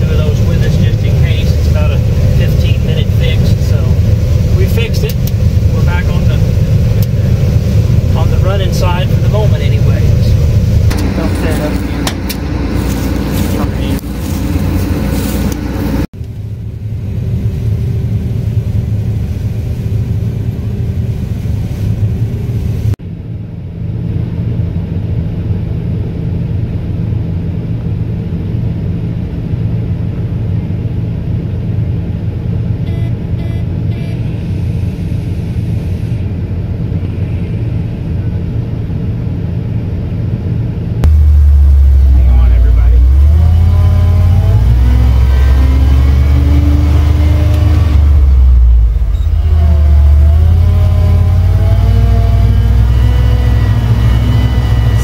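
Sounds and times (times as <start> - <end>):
combine harvester engine droning: 0.0 - 55.0.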